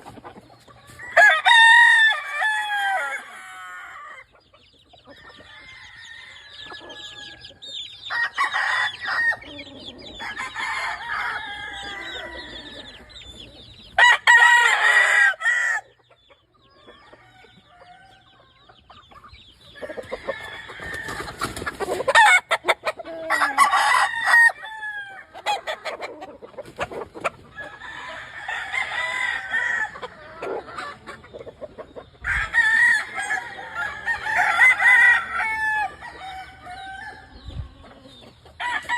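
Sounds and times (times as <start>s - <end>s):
chickens clucking: 0.0s - 38.9s
roosters crowing: 0.0s - 38.9s.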